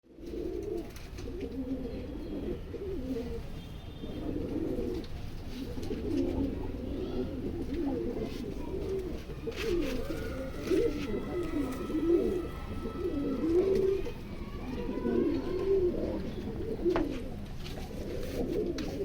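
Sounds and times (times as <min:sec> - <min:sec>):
pigeons cooing: 0:00.1 - 0:19.0.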